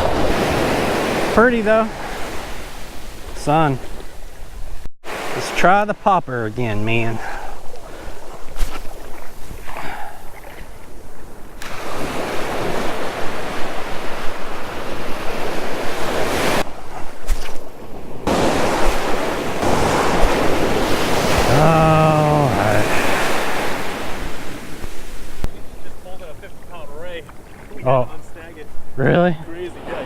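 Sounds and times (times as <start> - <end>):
ocean surf breaking: 0.0 - 30.0.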